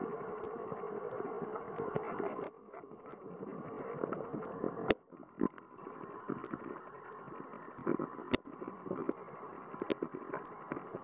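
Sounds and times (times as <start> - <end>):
muffled underwater stream rush: 0.0 - 11.0.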